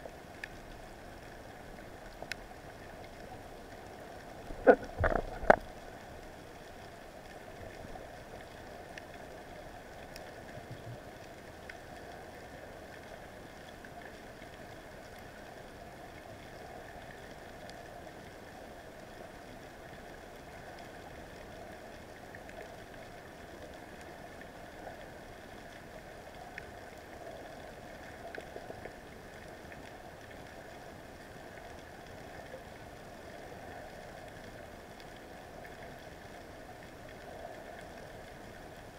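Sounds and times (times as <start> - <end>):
faint clicks and crackles: 0.0 - 38.9.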